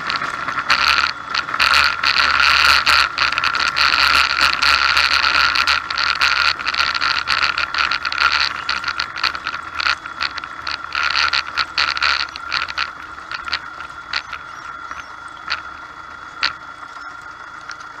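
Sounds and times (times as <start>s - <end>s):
airplane engine idling: 0.0s - 18.0s
steady high whine: 0.0s - 18.0s.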